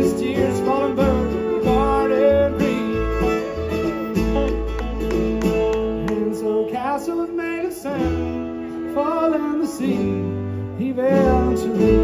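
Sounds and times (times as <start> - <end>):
bluegrass band playing: 0.0 - 12.0.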